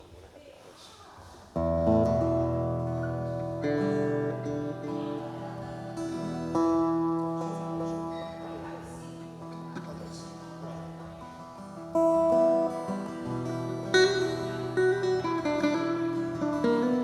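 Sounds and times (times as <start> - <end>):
acoustic guitar strumming and picking: 1.5 - 17.0.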